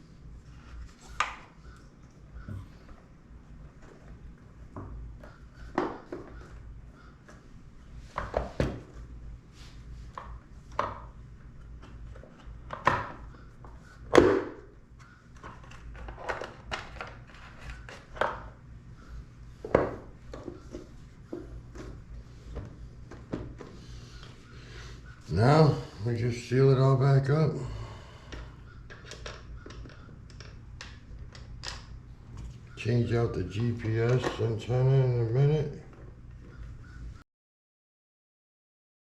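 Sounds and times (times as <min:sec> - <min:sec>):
faint low hum: 0:00.0 - 0:37.2.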